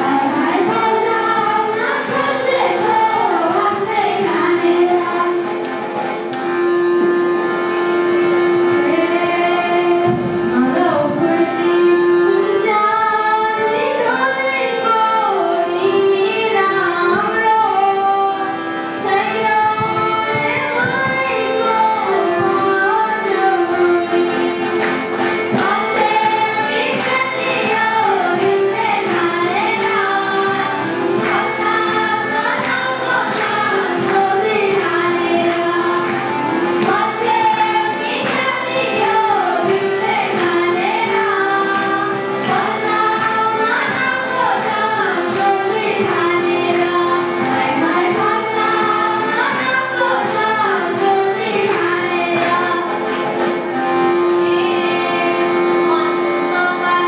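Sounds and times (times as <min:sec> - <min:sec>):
girls singing into a microphone: 0:00.0 - 0:57.0.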